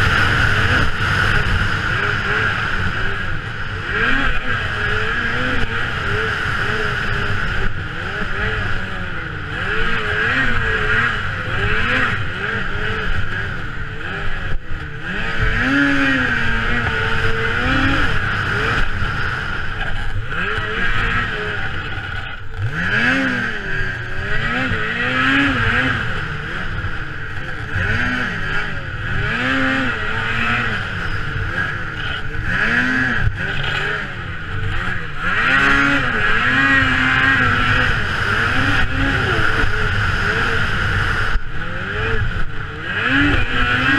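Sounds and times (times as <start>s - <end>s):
snowmobile engine revving: 0.0s - 43.9s
wind and track noise: 0.0s - 43.9s.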